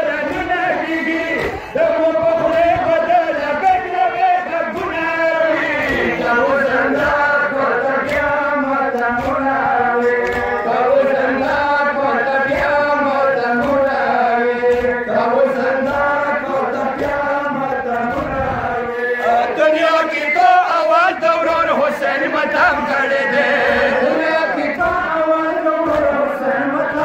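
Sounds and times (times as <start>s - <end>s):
men chanting a lament: 0.0s - 27.0s
rhythmic thumps: 0.0s - 27.0s.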